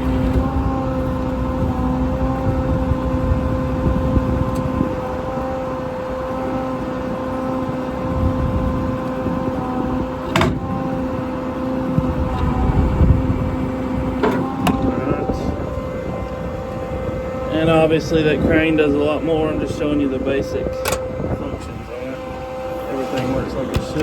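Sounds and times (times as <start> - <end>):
hydraulic whine: 0.0 - 24.0
truck engine running: 0.0 - 24.0.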